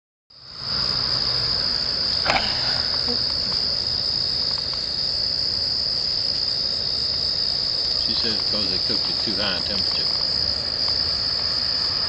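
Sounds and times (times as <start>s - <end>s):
insects trilling: 0.3s - 12.0s.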